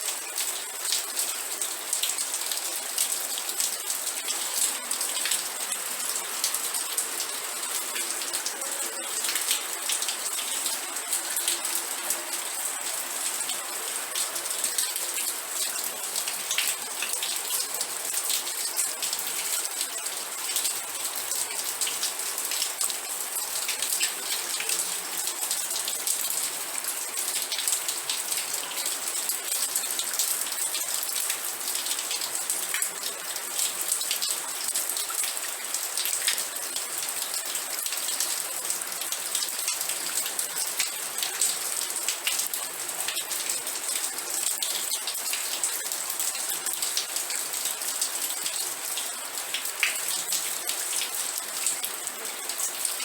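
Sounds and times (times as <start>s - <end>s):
crackly rain patter: 0.0s - 53.0s.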